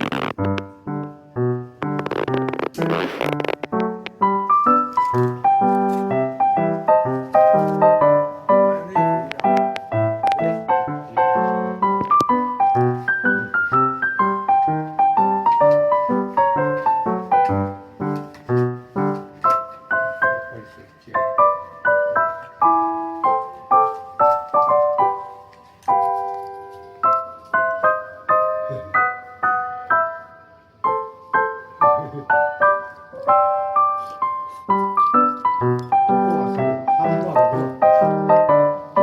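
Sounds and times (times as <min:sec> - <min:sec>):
solo piano music: 0:00.0 - 0:39.0.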